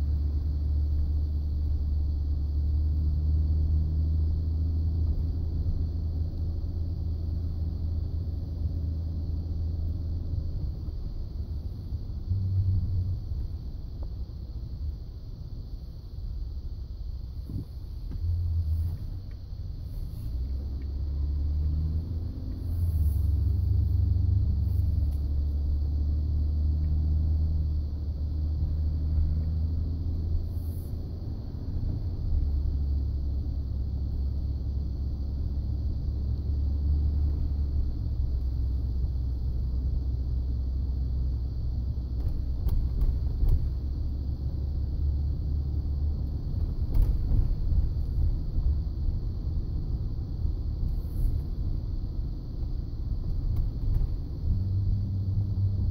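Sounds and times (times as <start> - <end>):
pickup truck engine rumble: 0.0 - 55.9.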